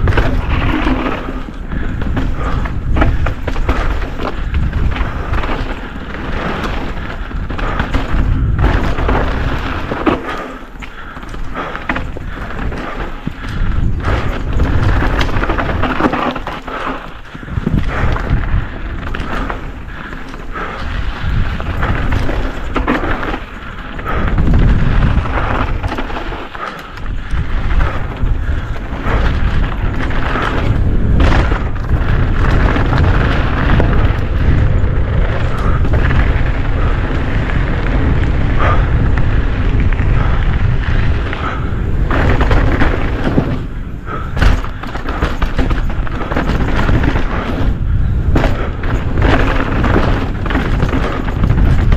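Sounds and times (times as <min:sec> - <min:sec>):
bike rattling over bumps: 0:00.0 - 0:51.9
tyres rolling on dirt: 0:00.0 - 0:51.9
wind rumble on microphone: 0:00.0 - 0:51.9.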